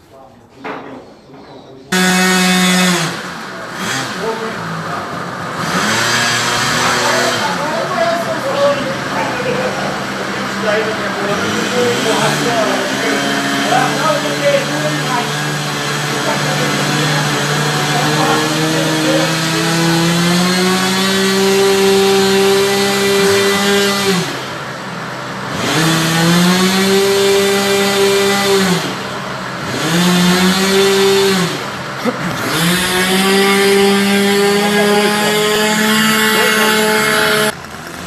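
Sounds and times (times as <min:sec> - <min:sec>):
model airplane engine revving: 0:01.9 - 0:38.0.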